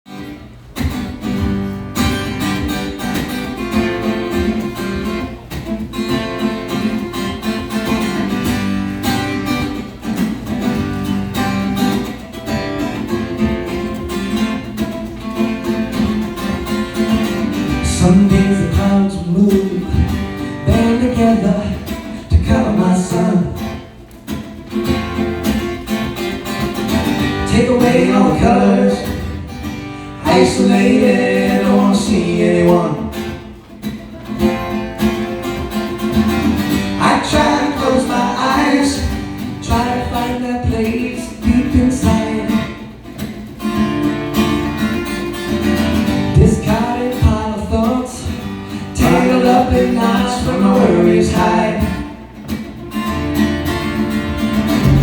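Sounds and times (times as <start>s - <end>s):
strummed acoustic guitar: 0.0s - 55.0s.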